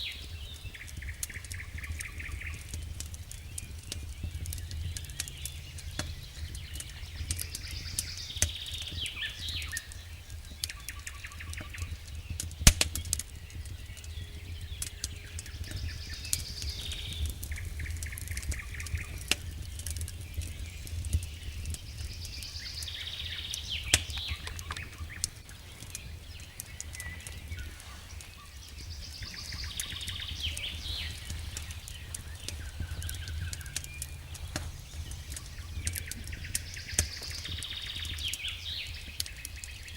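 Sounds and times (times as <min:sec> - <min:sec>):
bird chirping: 0:00.0 - 0:39.9
wood fire crackling: 0:00.0 - 0:39.9.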